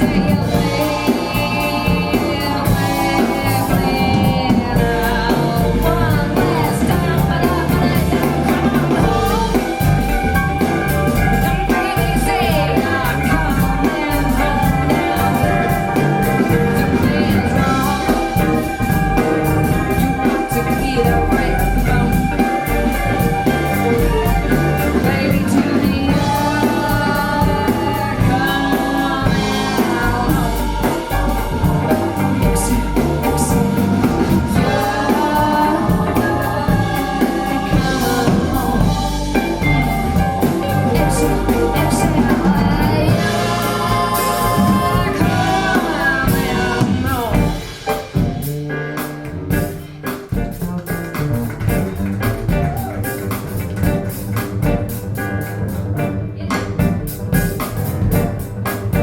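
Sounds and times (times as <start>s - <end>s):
band song with vocals over loudspeakers: 0.0s - 59.0s.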